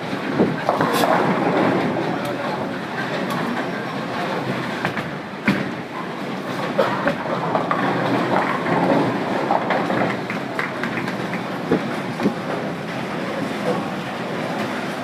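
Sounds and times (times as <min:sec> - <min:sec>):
bowling balls rumbling: 0:00.0 - 0:15.0
bowling pins clattering: 0:00.4 - 0:15.0.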